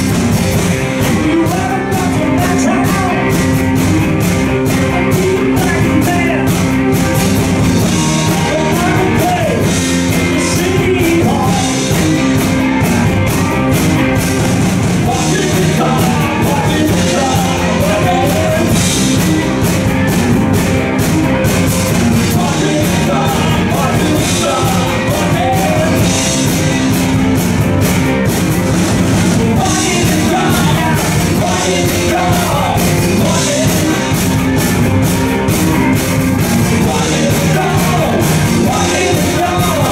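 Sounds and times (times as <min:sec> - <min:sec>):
drums keeping a beat: 0:00.0 - 0:39.9
electric bass: 0:00.0 - 0:39.9
electric guitars: 0:00.0 - 0:39.9.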